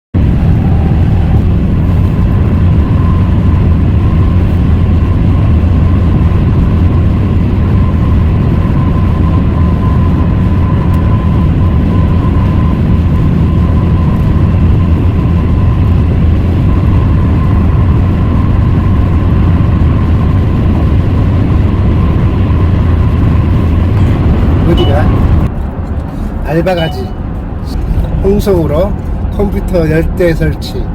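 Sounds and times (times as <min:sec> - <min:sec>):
faint steady whine: 0:00.2 - 0:30.9
road and engine rumble: 0:00.2 - 0:30.9.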